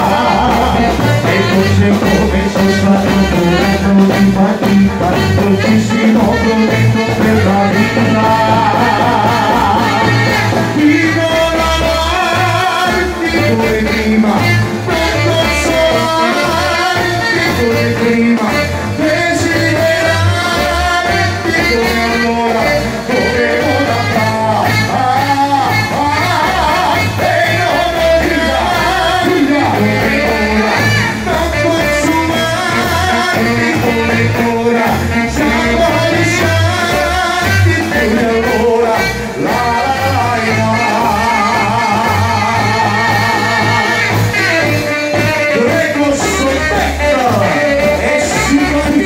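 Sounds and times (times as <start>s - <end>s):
drum kit beat: 0.0s - 49.0s
men singing into microphones: 0.0s - 49.0s
saxophone: 0.0s - 49.0s.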